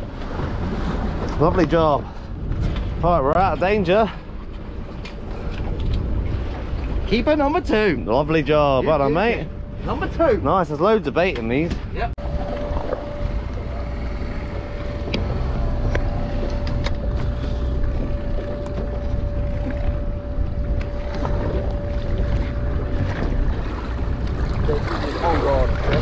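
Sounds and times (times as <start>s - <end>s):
wind and water rumble: 0.0s - 26.0s.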